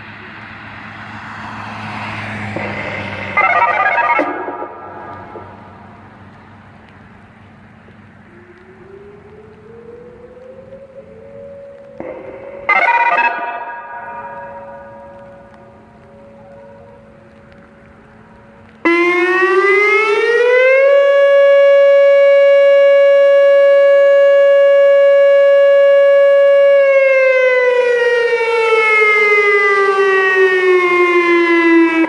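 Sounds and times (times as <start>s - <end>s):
outdoor warning siren: 0.0s - 32.0s.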